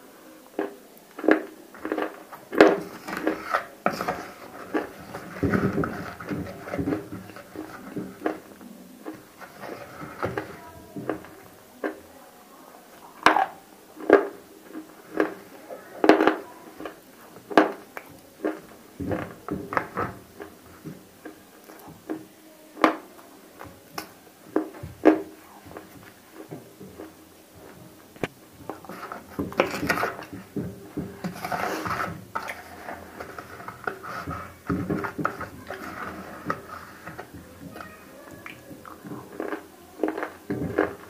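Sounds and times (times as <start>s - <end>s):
crunching and chewing: 0.4s - 12.2s, 12.9s - 41.0s.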